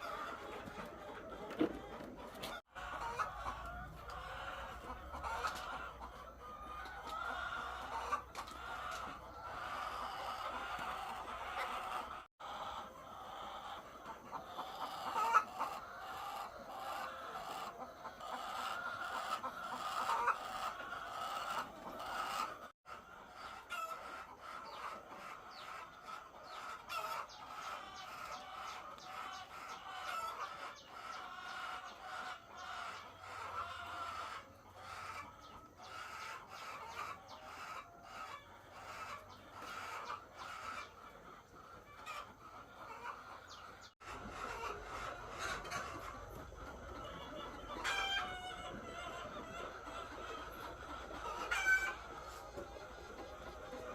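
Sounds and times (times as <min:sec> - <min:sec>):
hens clucking: 0:00.0 - 0:53.9.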